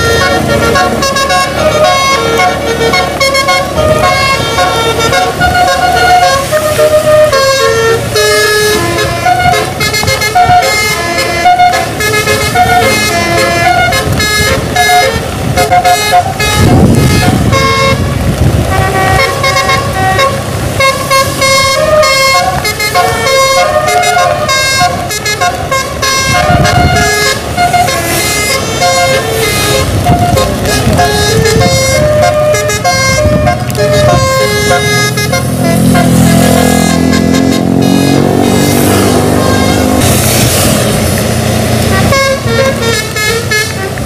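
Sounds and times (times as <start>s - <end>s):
bus engine rumble: 0.0s - 44.0s
musical bus air horn melody: 0.0s - 44.0s.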